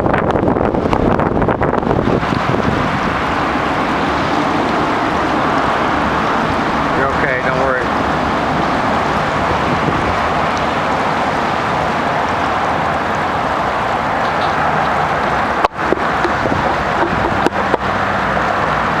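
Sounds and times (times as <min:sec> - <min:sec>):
water rushing around boat: 0:00.0 - 0:19.0
wind: 0:00.0 - 0:19.0.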